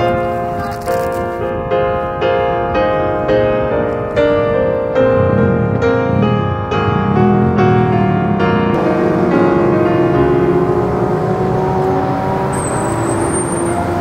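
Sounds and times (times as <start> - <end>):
slow gentle piano melody: 0.0 - 14.0.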